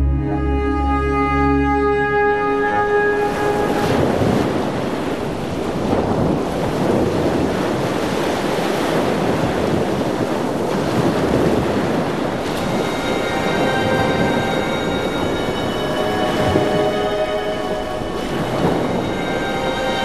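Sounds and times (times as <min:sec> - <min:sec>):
waves sloshing: 0:02.6 - 0:20.0
wind on the microphone: 0:03.2 - 0:19.7.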